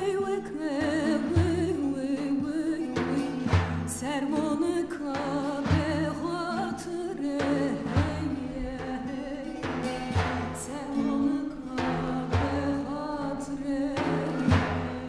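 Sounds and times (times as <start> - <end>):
frame drum beats: 0.0 - 15.0
woman singing: 0.0 - 15.0.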